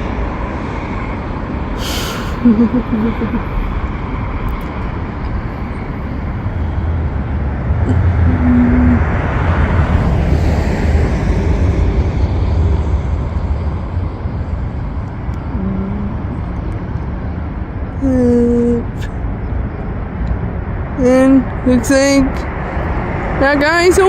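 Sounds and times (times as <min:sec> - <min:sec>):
low traffic rumble: 0:00.0 - 0:24.0.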